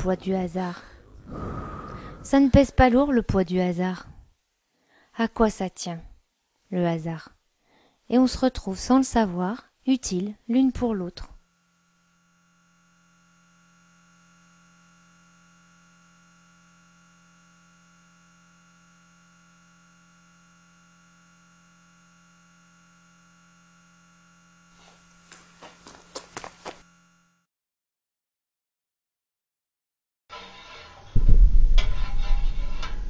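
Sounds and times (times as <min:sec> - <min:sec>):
electrical hum with hiss: 0:00.0 - 0:27.4.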